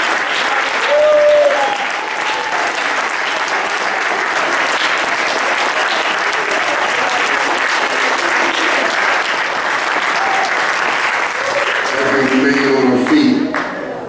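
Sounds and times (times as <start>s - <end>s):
congregation clapping: 0.0s - 14.0s.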